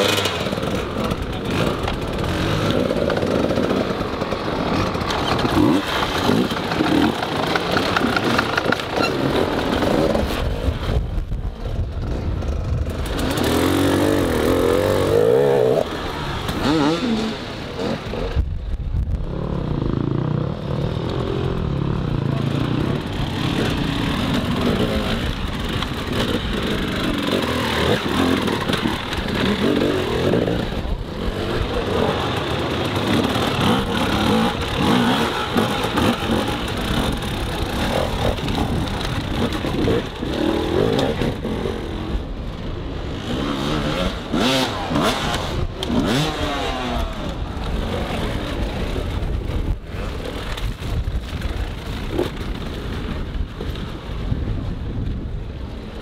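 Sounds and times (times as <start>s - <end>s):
dirt bike engines revving: 0.0s - 54.2s.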